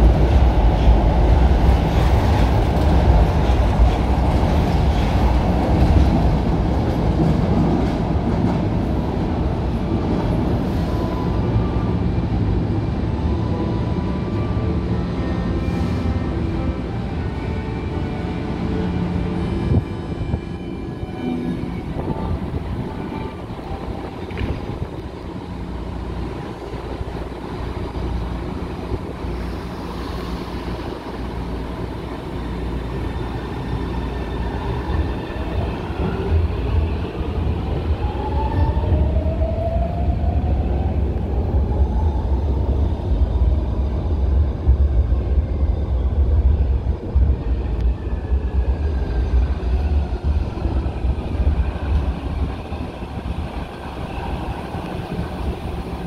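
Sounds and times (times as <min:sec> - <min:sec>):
low train rumble: 0:00.0 - 0:56.0.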